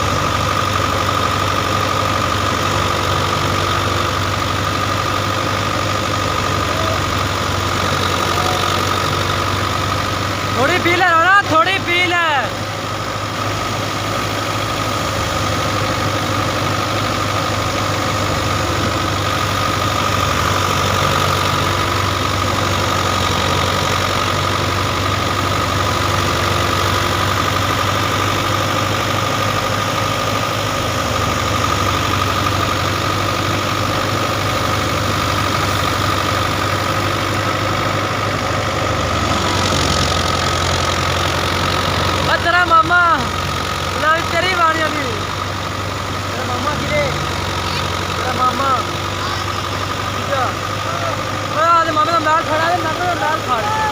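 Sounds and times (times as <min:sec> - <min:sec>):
farm machinery engine running: 0:00.0 - 0:53.9.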